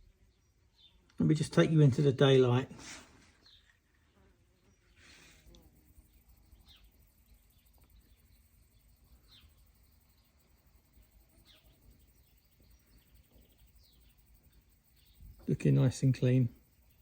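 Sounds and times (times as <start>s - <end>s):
small bird chirping: 0.0s - 2.2s, 3.3s - 17.0s.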